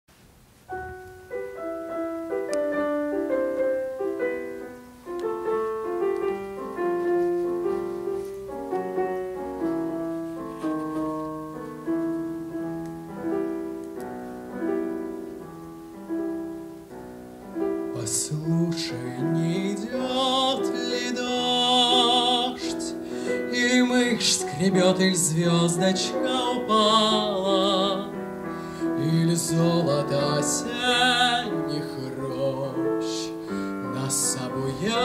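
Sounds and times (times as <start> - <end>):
solo piano: 0.1 - 35.0.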